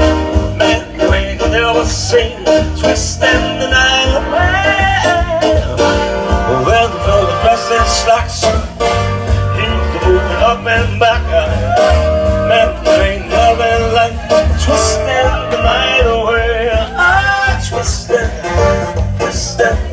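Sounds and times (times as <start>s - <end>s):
live dance music: 0.0s - 19.9s
man singing into a microphone: 0.0s - 19.9s.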